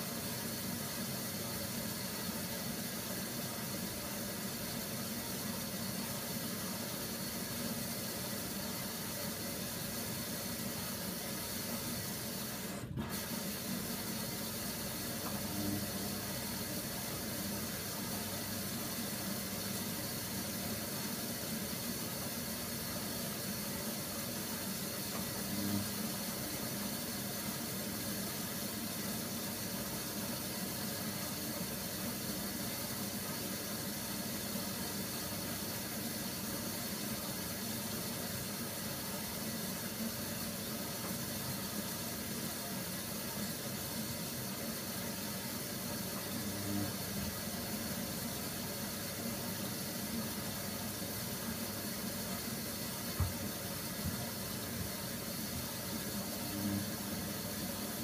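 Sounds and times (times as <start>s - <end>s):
washing machine motor hum: 0.0s - 58.0s
washing machine water swishing: 0.0s - 58.0s.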